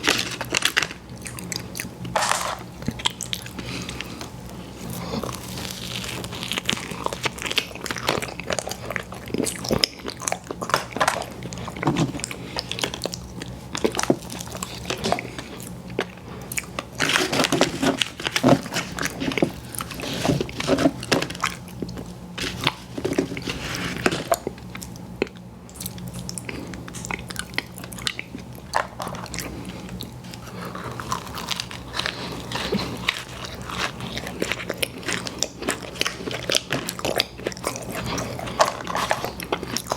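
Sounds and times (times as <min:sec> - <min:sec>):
crisp pastry crunching: 0:00.0 - 0:39.9.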